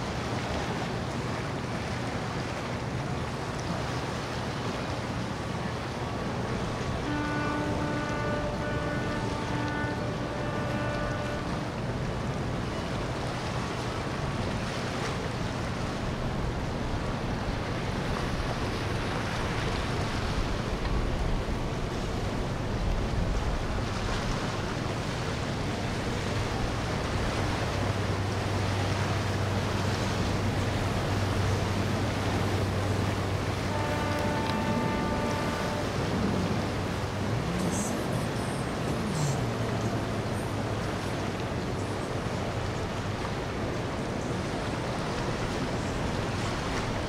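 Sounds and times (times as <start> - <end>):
boat engine drone: 0.0 - 47.0
wind and water rushing: 0.0 - 47.0.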